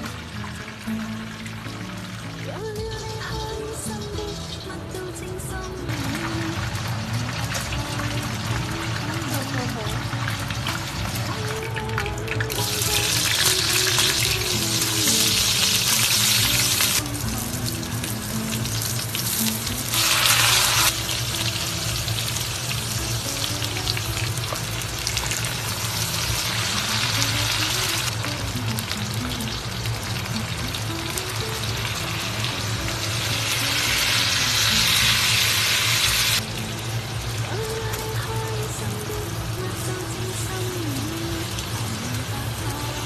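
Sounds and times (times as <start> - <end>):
fish sizzling in wok: 0.0 - 43.0.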